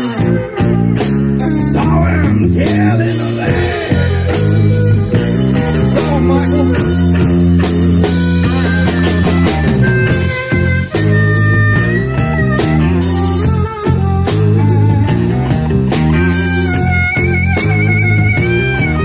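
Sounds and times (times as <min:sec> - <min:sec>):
drums: 0:00.0 - 0:19.0
electric bass: 0:00.0 - 0:19.0
electric guitar: 0:00.0 - 0:19.0.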